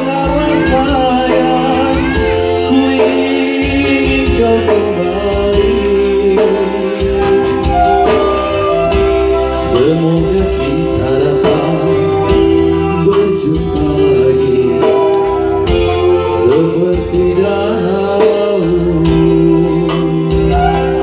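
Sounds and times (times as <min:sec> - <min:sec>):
instrumental music with gliding melody: 0:00.0 - 0:21.0.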